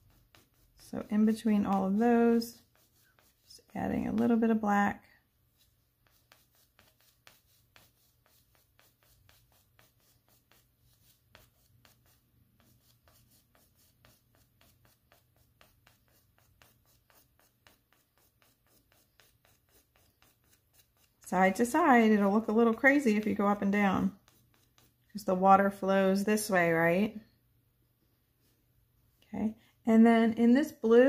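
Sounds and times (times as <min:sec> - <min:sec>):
oil pastel scratching on paper: 0:00.0 - 0:25.5.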